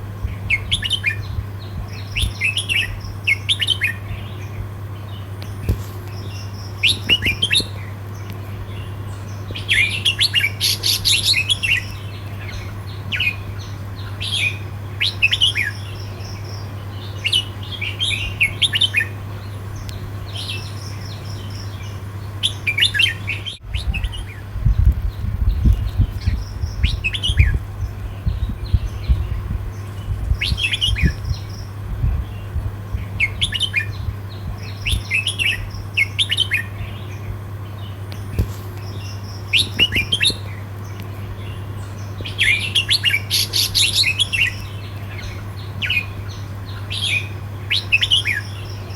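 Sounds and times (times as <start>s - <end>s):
bulbul singing: 0.0s - 48.9s
low hum: 0.0s - 48.9s.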